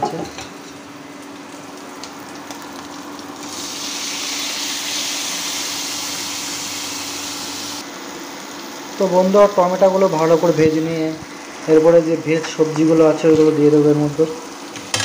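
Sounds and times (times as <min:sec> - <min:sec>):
oil frying lightly: 0:00.0 - 0:14.9
tomatoes sizzling loudly: 0:00.0 - 0:15.0.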